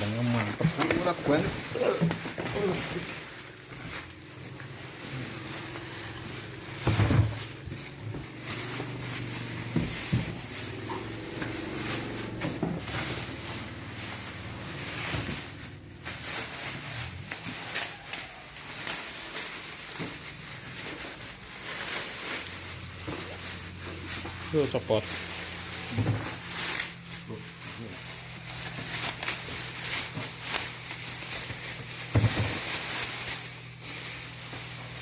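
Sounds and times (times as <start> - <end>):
cardboard packaging rustling: 0.0 - 35.0.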